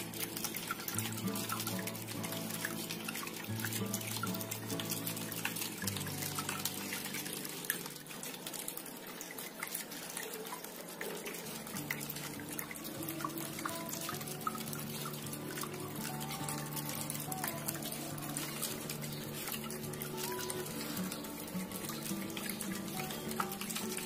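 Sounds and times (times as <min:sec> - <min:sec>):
soft music with sustained chords: 0:00.0 - 0:24.0
water trickling and dripping: 0:00.0 - 0:24.0.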